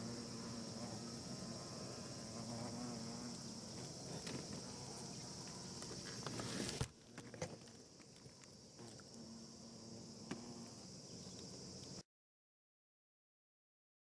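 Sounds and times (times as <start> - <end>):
high-pitched insect chorus: 0.0 - 12.0
hornets buzzing: 0.0 - 12.0.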